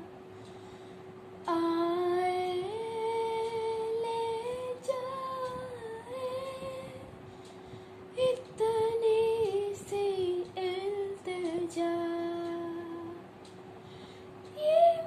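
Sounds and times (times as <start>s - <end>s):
girl singing wordless melody: 1.4s - 13.5s, 14.4s - 15.0s.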